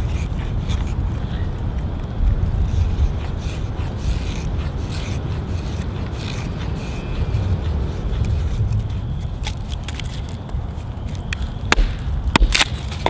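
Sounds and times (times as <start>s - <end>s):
knife scraping wood: 0.0s - 1.8s, 2.4s - 13.0s.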